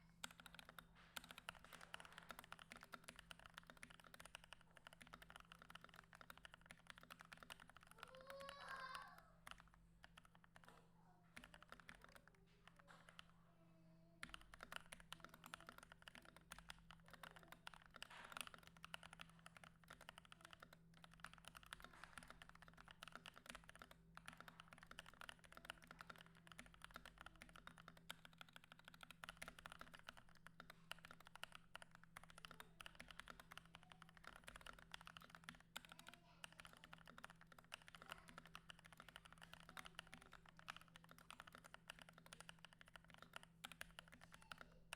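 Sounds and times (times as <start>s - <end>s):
mechanical keyboard typing: 0.2s - 13.3s, 14.2s - 44.9s.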